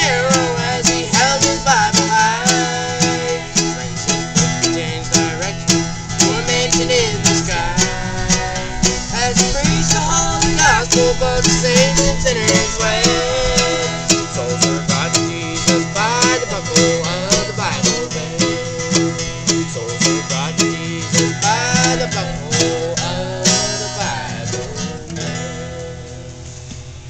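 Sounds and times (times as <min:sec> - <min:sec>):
bluegrass banjo and guitar: 0:00.0 - 0:27.0
steady bass: 0:00.0 - 0:27.0.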